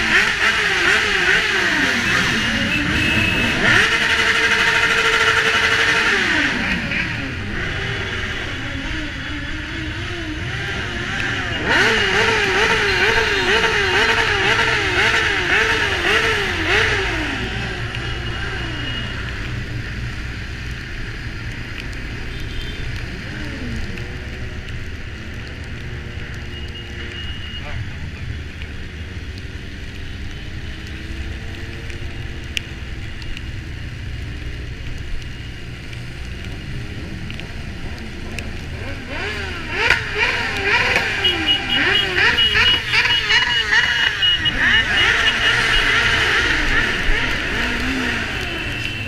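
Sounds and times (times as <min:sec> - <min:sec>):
motorcycle engines revving: 0:00.0 - 0:49.0.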